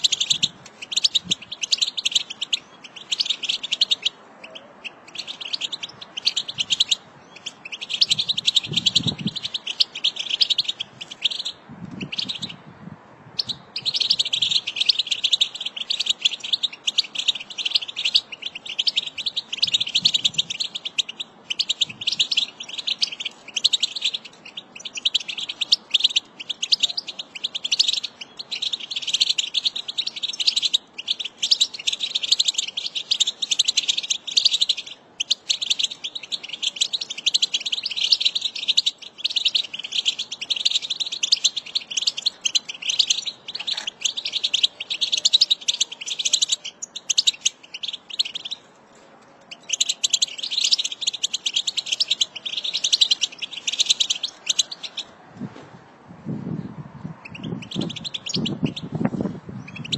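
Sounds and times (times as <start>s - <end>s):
bird twittering and warbling: 0.0s - 12.7s, 13.3s - 55.2s, 56.6s - 59.9s.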